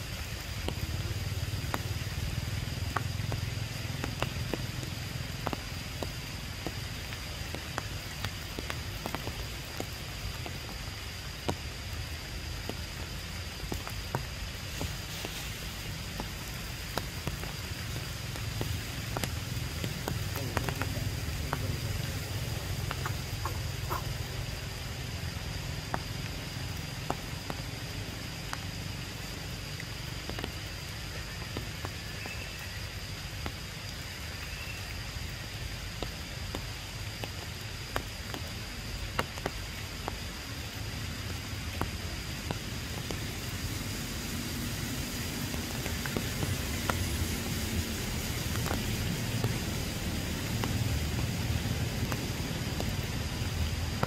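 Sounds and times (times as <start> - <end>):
rain on foliage: 0.0 - 54.0
water drips ticking: 0.0 - 54.0.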